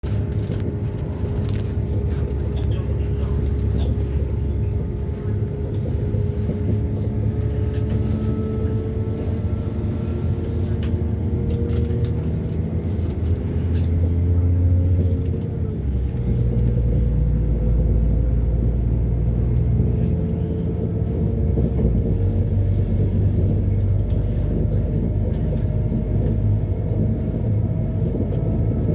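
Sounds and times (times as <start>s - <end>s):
train rumbling: 0.0s - 28.9s.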